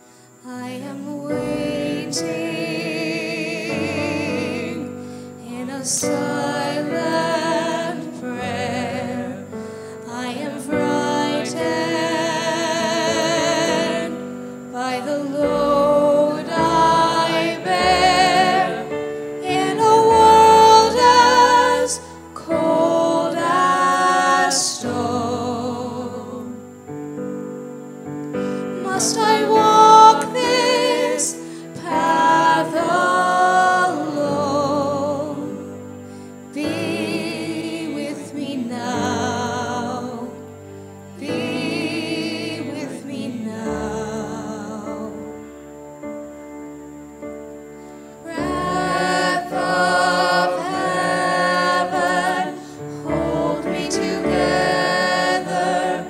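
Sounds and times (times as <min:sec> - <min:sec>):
person singing with vibrato: 0:00.0 - 0:26.8, 0:28.4 - 0:40.5, 0:48.1 - 0:56.0
keyboard accompaniment: 0:00.8 - 0:56.0.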